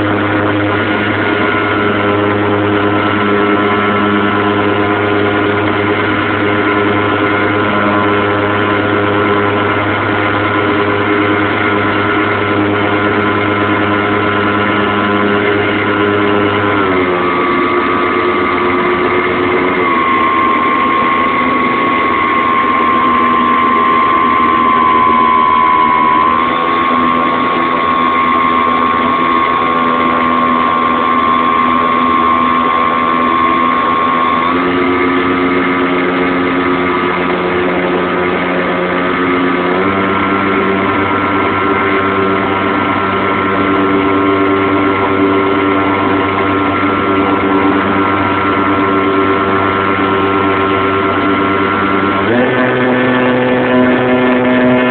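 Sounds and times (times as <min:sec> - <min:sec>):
model airplane motor and propeller: 0:00.0 - 0:54.9.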